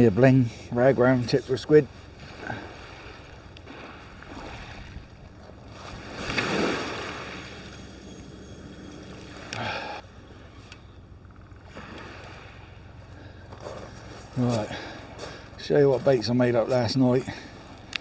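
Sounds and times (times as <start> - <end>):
sea waves: 0.0 - 18.0
wind: 0.0 - 18.0.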